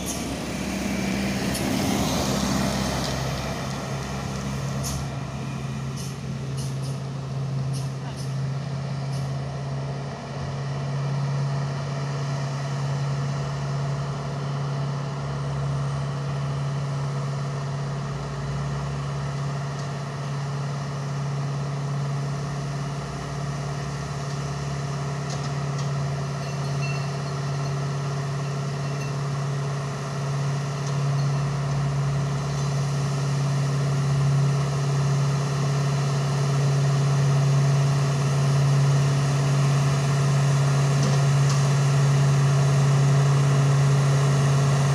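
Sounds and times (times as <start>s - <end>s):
diesel truck engines running: 0.0s - 44.9s
truck approaching: 0.0s - 44.9s.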